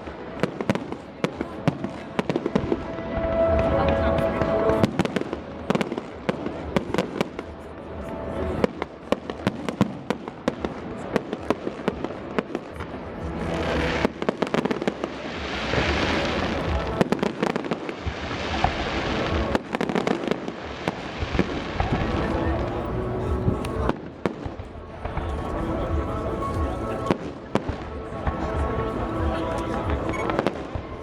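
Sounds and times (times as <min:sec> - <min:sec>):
fireworks bangs and pops: 0:00.0 - 0:31.0
fireworks crackling hiss: 0:00.0 - 0:31.0
music: 0:00.0 - 0:31.0.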